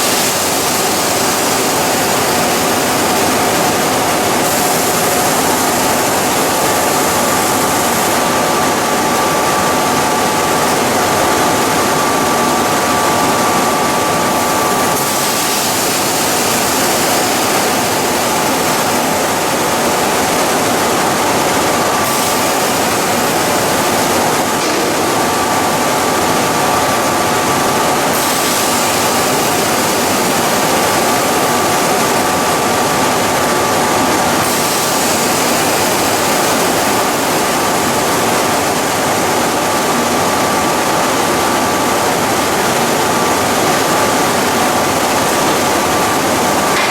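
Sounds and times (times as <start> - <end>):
industrial machine noise: 0.0 - 46.9
thin high machine whine: 0.0 - 46.9.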